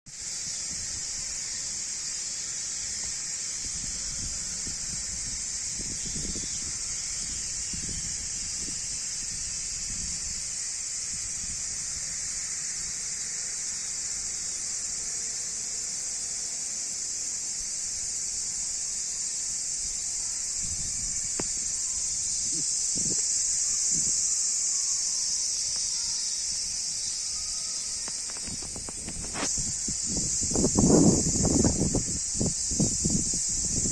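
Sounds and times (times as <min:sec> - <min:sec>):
insects droning: 0:00.1 - 0:33.9.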